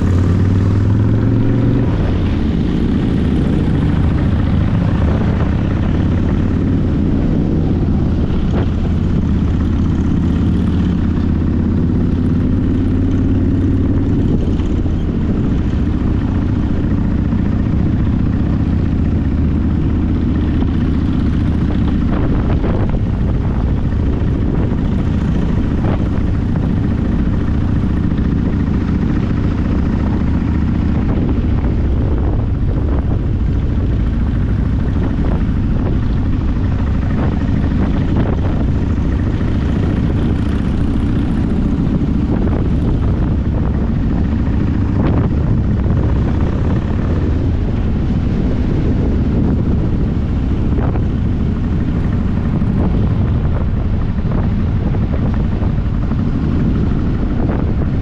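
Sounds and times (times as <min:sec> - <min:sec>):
vehicle rumble: 0:00.0 - 0:58.0
wind noise on microphone: 0:00.0 - 0:58.0.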